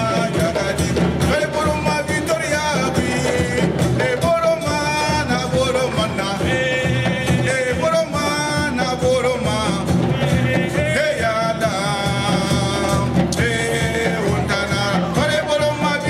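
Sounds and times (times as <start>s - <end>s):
hand drums playing rhythm: 0.0s - 16.0s
person singing: 0.0s - 16.0s.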